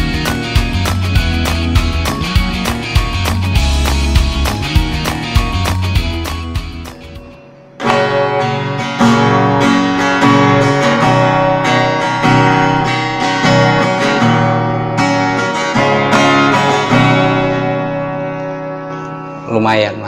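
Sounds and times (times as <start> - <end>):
acoustic guitar chords ringing: 0.0 - 19.5.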